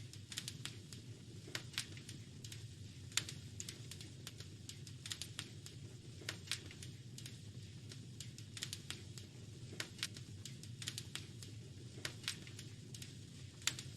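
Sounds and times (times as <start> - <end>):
low fire rumble: 0.0 - 13.9
wood fire crackling: 0.0 - 13.9.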